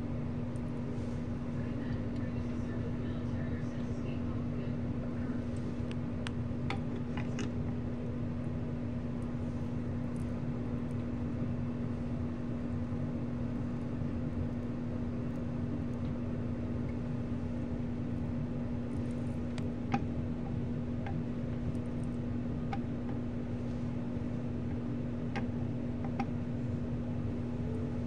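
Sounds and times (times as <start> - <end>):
exhaust fan humming: 0.0 - 28.0.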